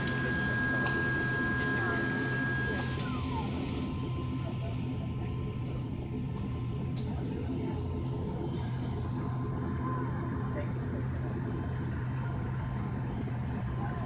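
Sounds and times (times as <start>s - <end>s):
turboprop engine drone in cabin: 0.0s - 14.0s.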